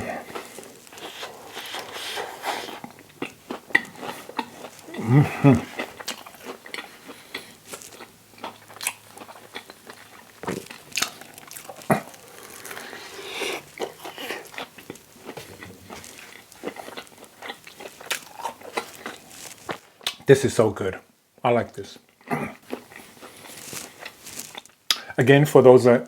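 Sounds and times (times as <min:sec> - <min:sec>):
close chewing with mouth clicks: 0:00.0 - 0:20.3, 0:22.0 - 0:25.1.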